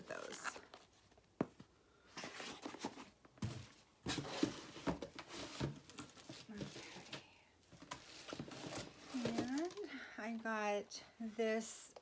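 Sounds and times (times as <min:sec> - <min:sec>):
cardboard packaging rustling: 0:00.0 - 0:09.9.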